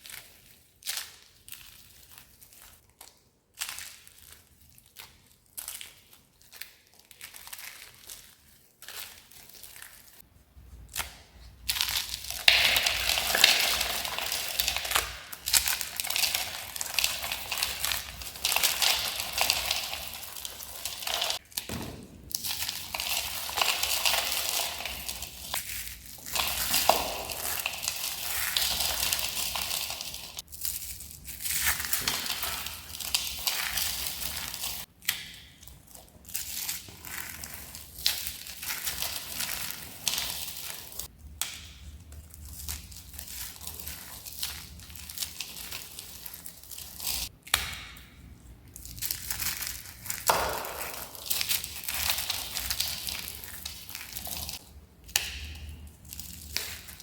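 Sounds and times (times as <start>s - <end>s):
dry soap being crushed: 0.0s - 57.0s.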